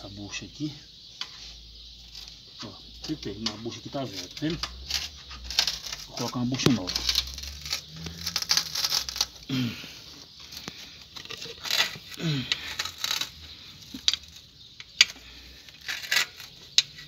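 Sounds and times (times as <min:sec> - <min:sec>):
scraping and rustling on metal parts: 0:01.1 - 0:17.0.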